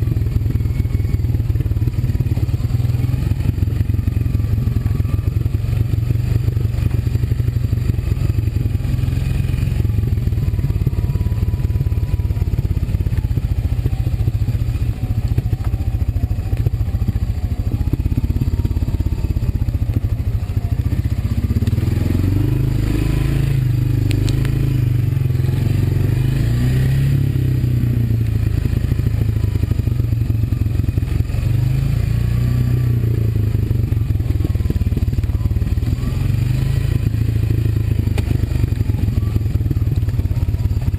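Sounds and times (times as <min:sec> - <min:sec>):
atv engine running: 0:00.0 - 0:40.9
rattling and scraping over trail: 0:00.0 - 0:40.9.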